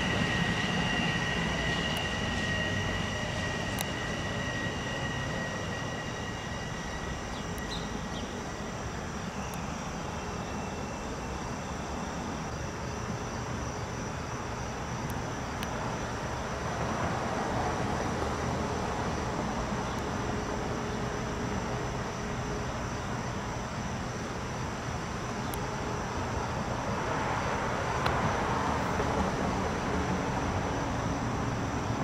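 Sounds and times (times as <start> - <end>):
electric train approaching: 0.0 - 32.0.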